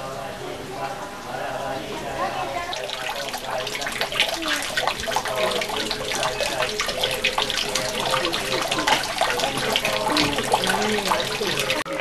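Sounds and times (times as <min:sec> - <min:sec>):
water splashing into stone basin: 0:02.1 - 0:12.0.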